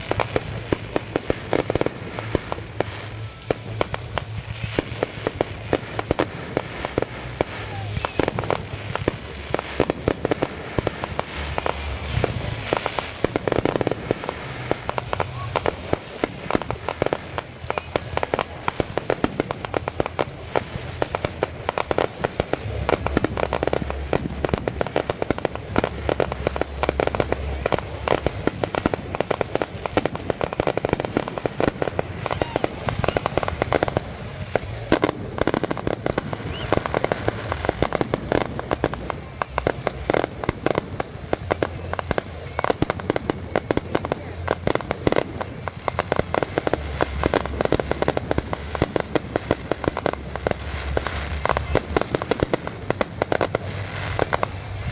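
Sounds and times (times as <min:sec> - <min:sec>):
falling firework whistles: 0:00.0 - 0:17.5, 0:18.4 - 0:54.9
fireworks bangs and crackling: 0:00.0 - 0:54.9.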